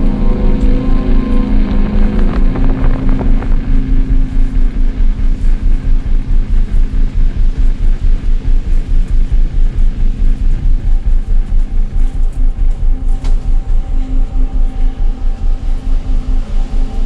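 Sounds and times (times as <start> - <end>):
dark ambient drone music: 0.0 - 17.0.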